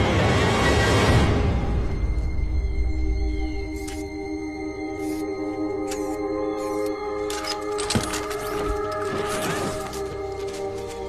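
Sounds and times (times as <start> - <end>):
film score sustained tones: 0.0 - 11.0.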